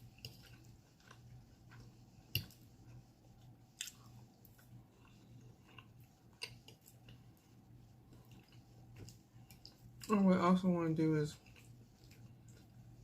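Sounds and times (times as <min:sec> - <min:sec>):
close-miked chewing: 0:00.0 - 0:10.2, 0:11.3 - 0:13.0.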